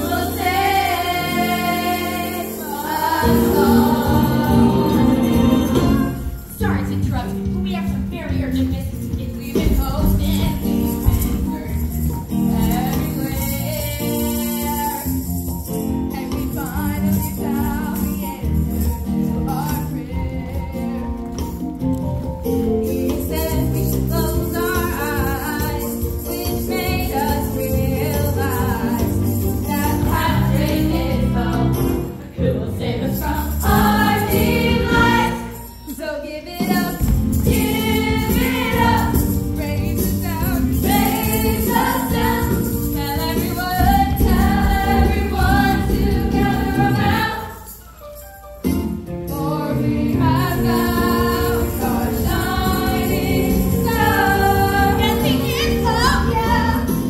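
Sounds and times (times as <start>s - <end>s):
chorus singing gospel music: 0.0s - 7.3s, 9.6s - 57.0s
tambourine-like jingling beat: 0.0s - 32.3s, 33.0s - 57.0s.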